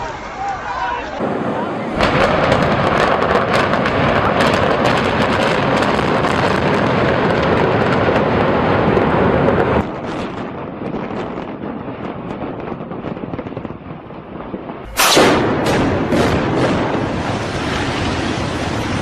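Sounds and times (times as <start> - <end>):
building demolition blast roar: 1.2 - 12.2, 14.6 - 19.0.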